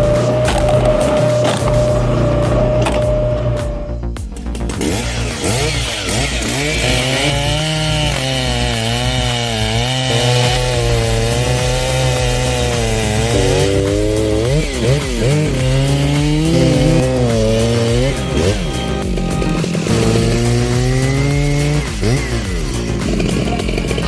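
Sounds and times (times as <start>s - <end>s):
chainsaw cutting wood: 0.0s - 3.9s, 4.7s - 24.0s.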